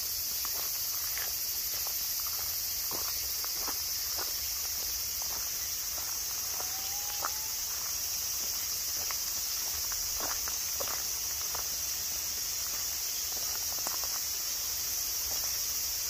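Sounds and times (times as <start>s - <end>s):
insects chorus: 0.0s - 16.0s
footsteps on fallen leaves: 0.2s - 16.0s.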